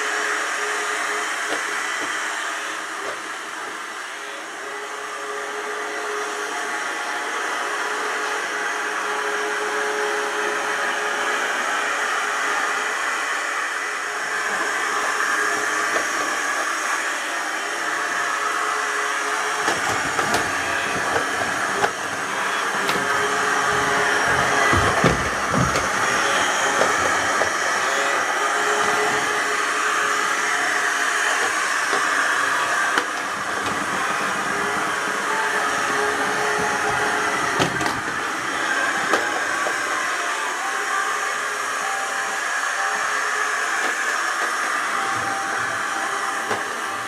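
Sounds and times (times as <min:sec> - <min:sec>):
robot vacuum cleaner whirring: 0:00.0 - 0:47.0.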